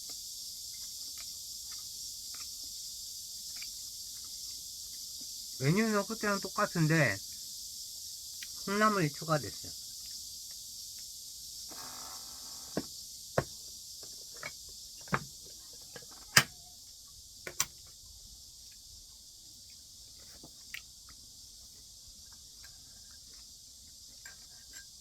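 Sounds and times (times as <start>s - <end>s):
high-pitched hiss: 0.0s - 25.0s.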